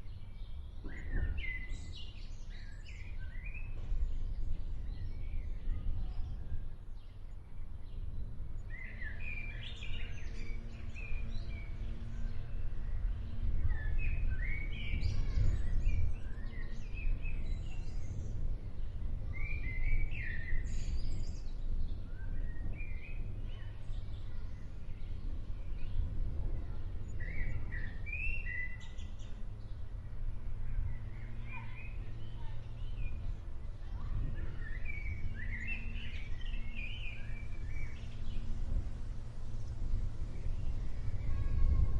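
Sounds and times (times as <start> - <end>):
low outdoor rumble: 0.0 - 41.9
small birds chirping: 0.0 - 41.9.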